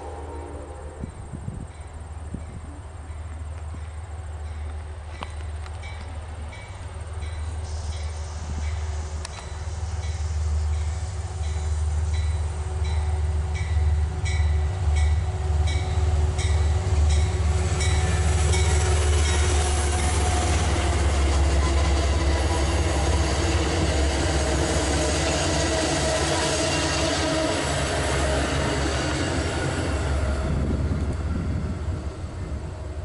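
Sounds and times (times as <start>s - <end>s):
train coaches rumbling: 0.0s - 33.0s.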